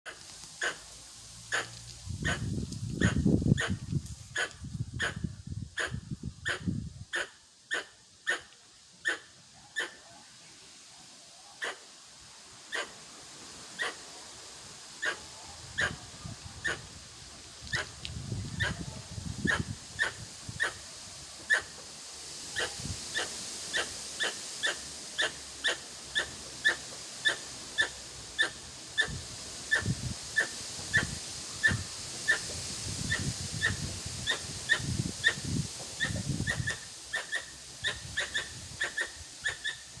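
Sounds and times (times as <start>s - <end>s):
squirrel barking calls: 0.1s - 10.1s, 11.6s - 11.9s, 12.7s - 13.0s, 13.8s - 14.0s, 15.0s - 17.0s, 17.7s - 20.8s, 21.5s - 21.8s, 22.5s - 40.0s.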